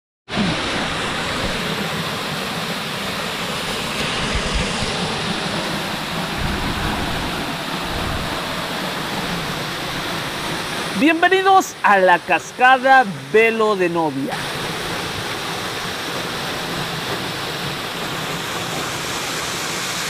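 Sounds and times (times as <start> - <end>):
waterfall rushing into pool: 0.3 - 20.0.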